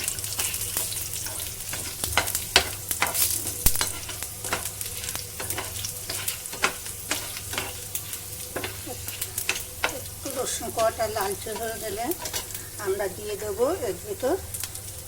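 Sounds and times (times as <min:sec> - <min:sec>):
spatula scraping pan: 0:00.0 - 0:13.7
garlic and spices sizzling in oil: 0:00.0 - 0:15.0.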